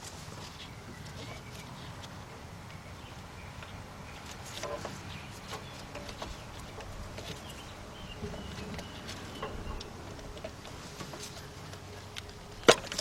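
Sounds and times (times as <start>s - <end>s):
faint birds chirping: 0.0s - 13.0s
low steady hum: 0.0s - 13.0s.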